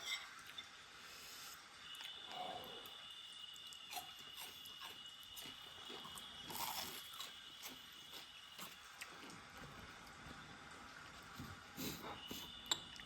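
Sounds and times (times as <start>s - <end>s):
chewing crunchy food: 1.9s - 13.0s.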